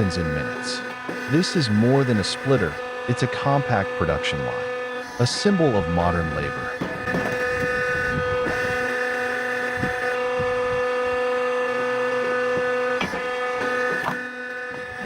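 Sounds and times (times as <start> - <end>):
wood splitter high whine: 0.0 - 15.0.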